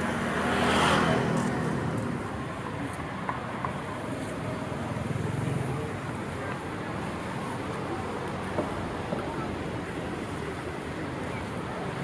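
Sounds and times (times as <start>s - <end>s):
traffic rush: 0.0s - 12.0s.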